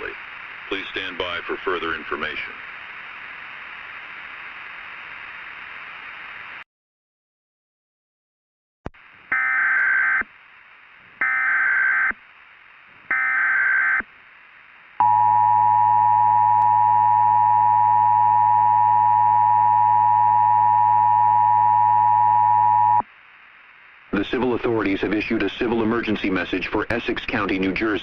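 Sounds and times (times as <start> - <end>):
faint static hiss: 0.0 - 6.6, 9.0 - 28.0.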